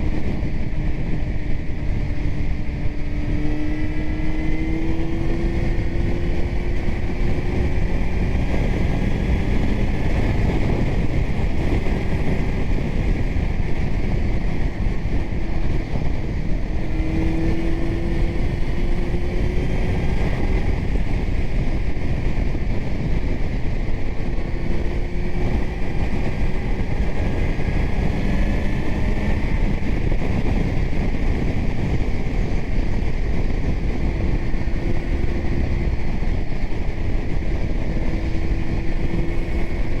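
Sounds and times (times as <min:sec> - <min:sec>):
motorcycle engine revving: 0:00.0 - 0:40.0
wind on microphone: 0:00.0 - 0:40.0.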